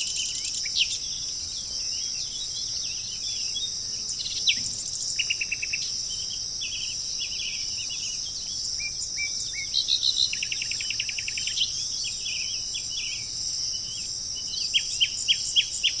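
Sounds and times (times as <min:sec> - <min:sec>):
high insect buzz: 0:00.0 - 0:16.0
songbirds chirping and trilling: 0:00.0 - 0:16.0.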